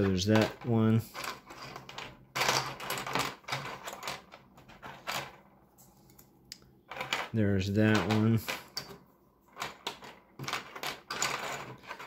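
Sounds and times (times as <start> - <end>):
plastic pieces clicking and clacking: 0.0 - 5.4, 6.1 - 12.0.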